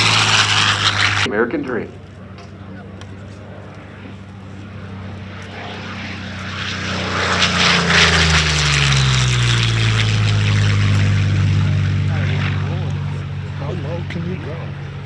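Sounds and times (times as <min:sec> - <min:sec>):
propeller plane flying by: 0:00.0 - 0:15.0.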